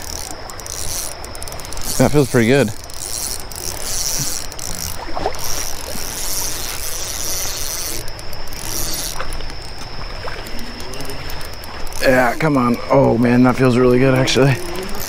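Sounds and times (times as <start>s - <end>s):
creek water flowing: 0.0s - 15.0s
faint clicks: 0.0s - 15.0s.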